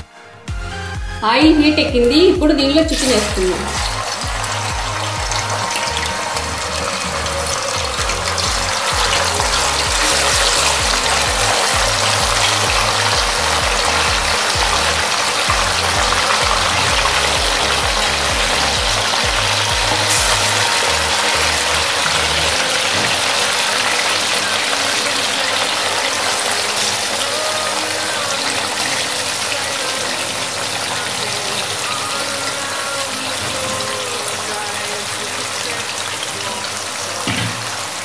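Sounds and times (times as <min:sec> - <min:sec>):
chicken sizzling in hot oil: 0:02.9 - 0:38.0.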